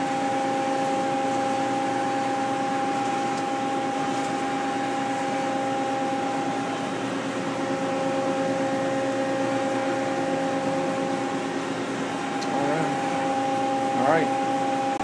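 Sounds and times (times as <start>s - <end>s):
lathe humming with high whine: 0.0s - 15.0s.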